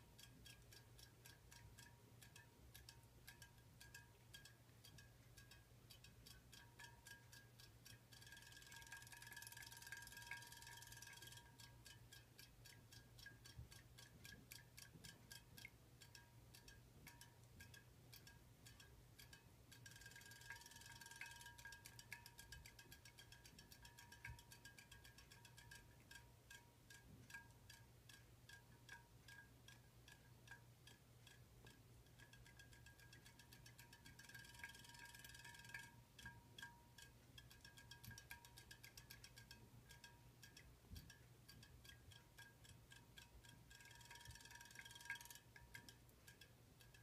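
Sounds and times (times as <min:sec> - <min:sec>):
low steady hum: 0:00.0 - 0:47.0
toy mechanism rapid ticking: 0:00.0 - 0:47.0.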